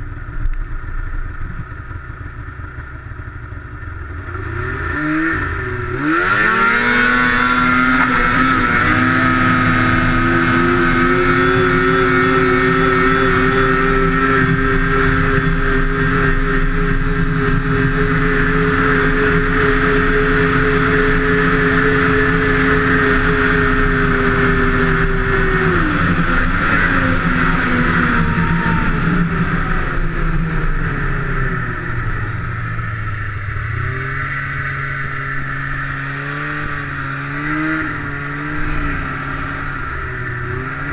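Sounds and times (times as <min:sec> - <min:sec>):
two-stroke snowmobile engine revving: 0:03.6 - 0:40.9.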